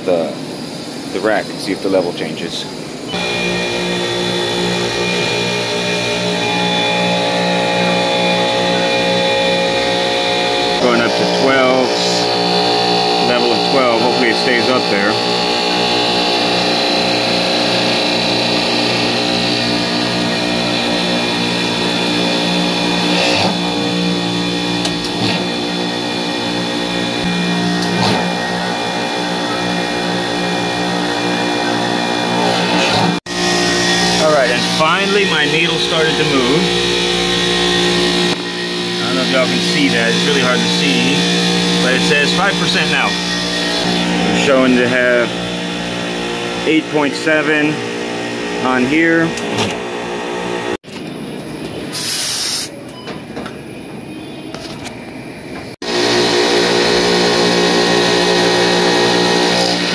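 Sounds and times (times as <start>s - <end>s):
refrigeration compressor humming: 0.0s - 59.9s.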